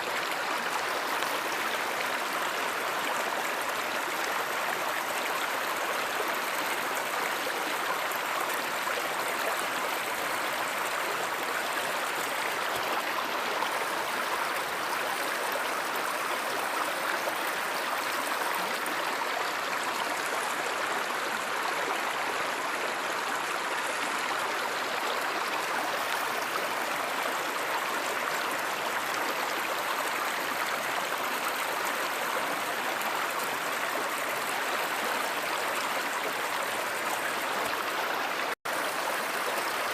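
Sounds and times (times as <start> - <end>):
stream water rushing and gurgling: 0.0 - 39.9.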